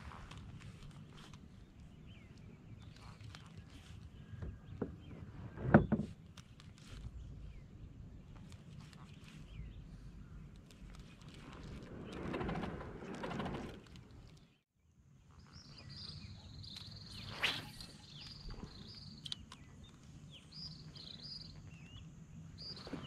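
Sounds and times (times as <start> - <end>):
small birds chirping: 0.1 - 5.4, 6.2 - 14.6, 15.2 - 23.0.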